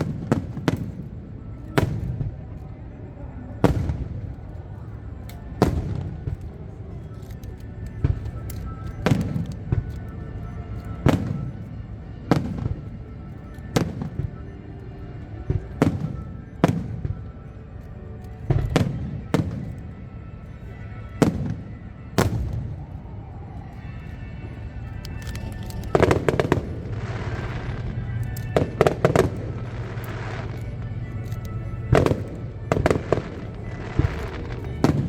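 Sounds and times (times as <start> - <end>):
fireworks bangs: 0.0 - 2.5, 3.6 - 4.8, 5.5 - 6.8, 8.0 - 14.5, 15.1 - 17.5, 18.5 - 20.0, 21.2 - 35.0
continuous low rumble: 0.0 - 35.0.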